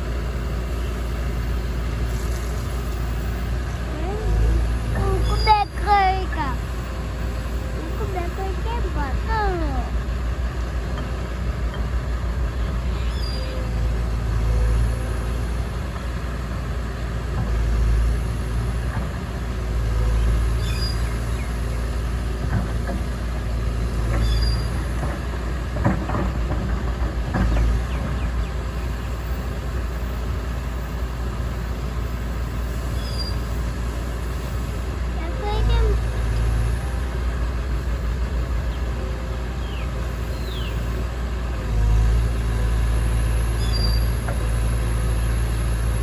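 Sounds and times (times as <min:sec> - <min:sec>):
excavator diesel engine: 0:00.0 - 0:46.0.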